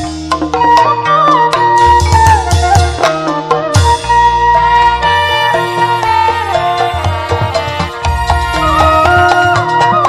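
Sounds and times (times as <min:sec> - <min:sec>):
bass: 0:00.0 - 0:10.0
folk melody with trills: 0:00.0 - 0:10.0
steady drumming: 0:01.8 - 0:10.0.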